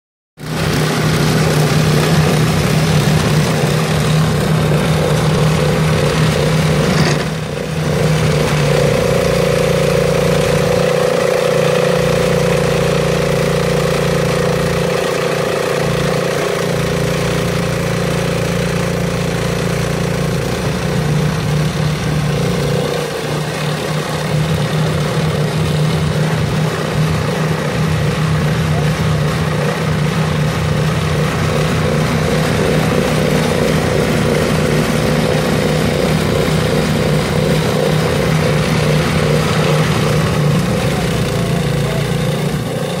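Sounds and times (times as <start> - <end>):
snowblower engine running: 0.4 - 43.0.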